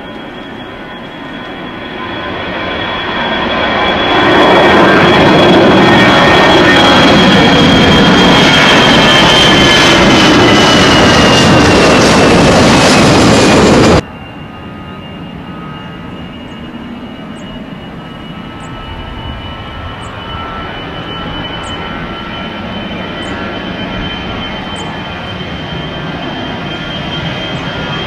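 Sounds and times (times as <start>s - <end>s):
jet engines whining: 0.0s - 28.0s
jet roar on takeoff: 0.0s - 28.0s.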